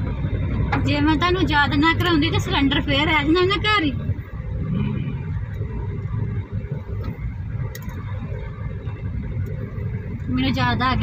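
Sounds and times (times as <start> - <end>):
car engine rumble inside cabin: 0.0 - 11.0.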